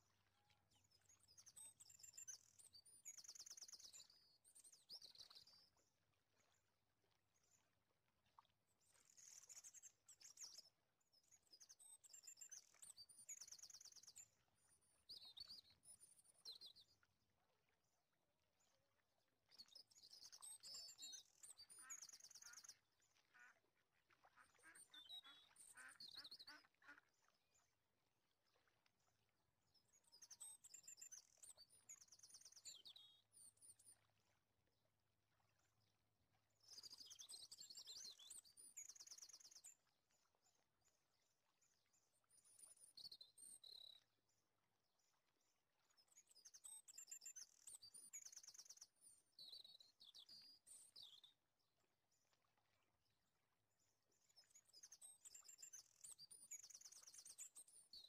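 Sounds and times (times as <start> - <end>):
faint bird calls and trills: 0.0 - 58.0.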